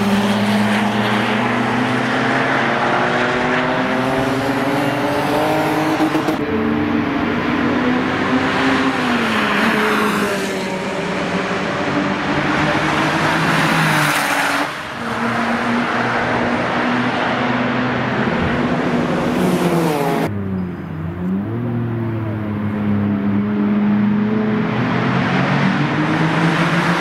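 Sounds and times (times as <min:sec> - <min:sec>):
sports car engine on race track: 0:00.0 - 0:27.0.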